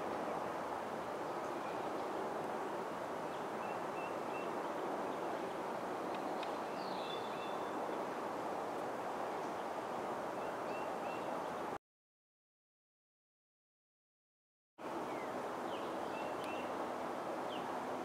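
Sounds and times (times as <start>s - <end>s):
outdoor background noise: 0.0s - 11.8s, 14.8s - 18.0s.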